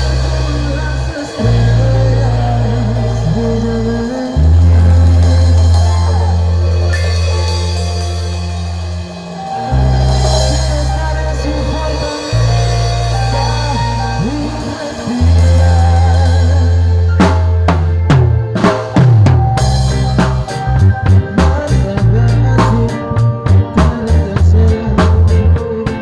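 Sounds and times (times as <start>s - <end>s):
melody: 0.0s - 24.7s
deep held bass line: 0.0s - 26.0s.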